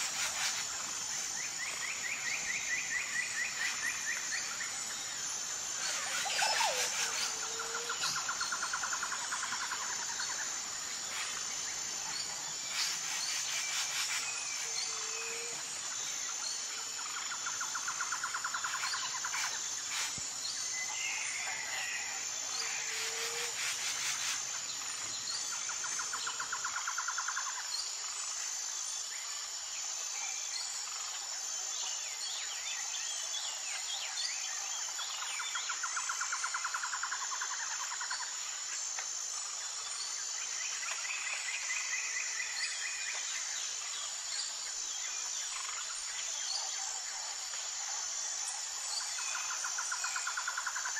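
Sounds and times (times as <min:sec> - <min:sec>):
high insect drone: 0:00.0 - 0:50.9
pulsing insect trills: 0:00.0 - 0:50.9.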